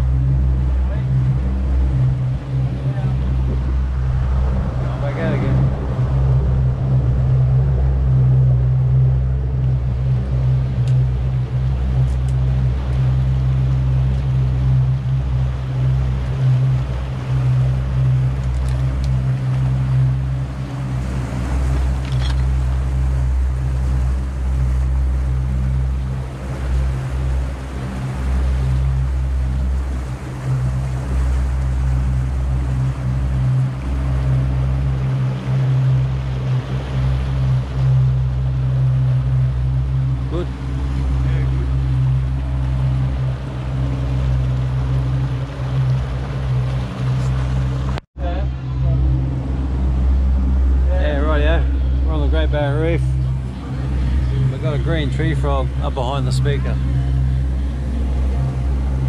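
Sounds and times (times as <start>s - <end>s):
outboard motors droning: 0.0s - 59.0s
wake churning behind boat: 0.0s - 59.0s.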